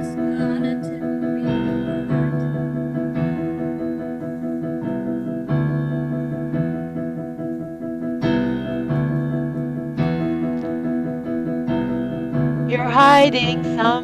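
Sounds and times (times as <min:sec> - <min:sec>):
keyboard playing sustained chords: 0:00.0 - 0:14.0.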